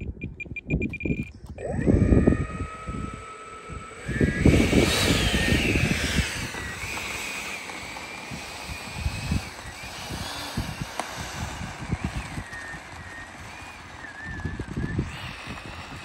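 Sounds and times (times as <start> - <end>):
electric ducted fans whining: 0.0 - 16.0
wind buffeting microphone: 0.0 - 16.0.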